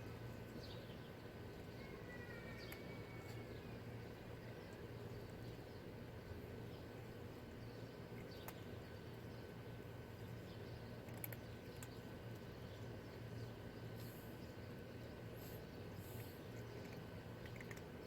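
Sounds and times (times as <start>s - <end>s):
cats crunching dry kibble: 0.0s - 18.0s
low background hum: 0.0s - 18.0s.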